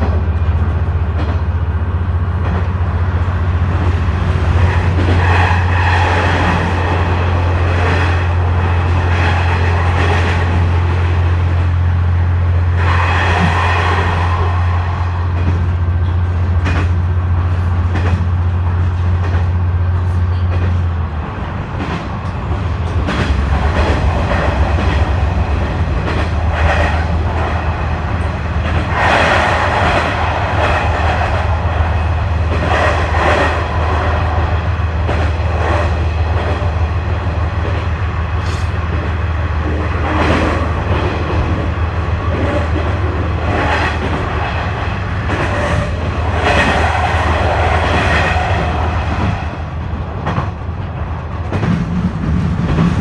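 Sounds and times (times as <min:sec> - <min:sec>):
train engine and running gear drone: 0:00.0 - 0:53.0.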